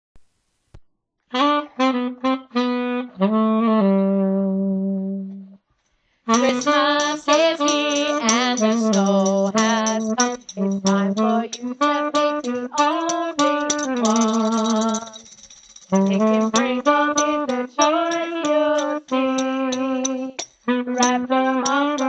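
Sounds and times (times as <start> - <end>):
saxophone melody: 1.3 - 5.6, 6.3 - 22.0.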